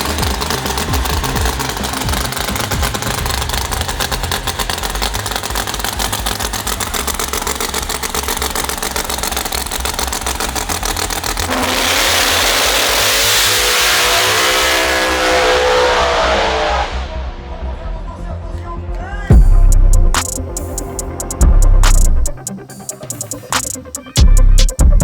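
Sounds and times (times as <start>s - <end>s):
drag car engine revving: 0.0s - 25.0s.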